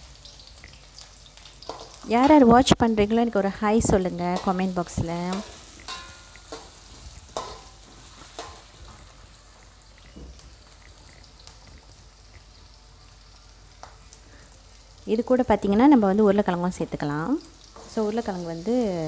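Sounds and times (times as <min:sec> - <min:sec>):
onion sizzling in hot oil: 0:00.0 - 0:19.0.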